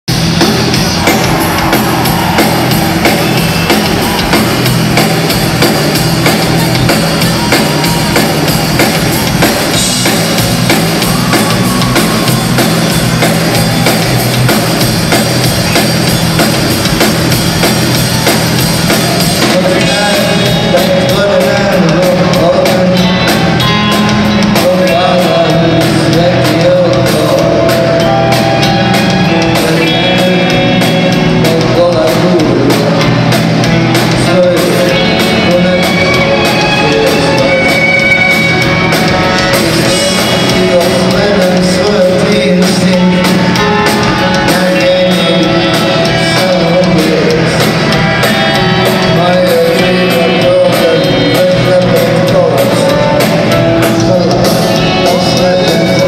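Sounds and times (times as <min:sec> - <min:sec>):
drum kit: 0:00.0 - 0:56.0
rock band and orchestra playing: 0:00.1 - 0:56.0.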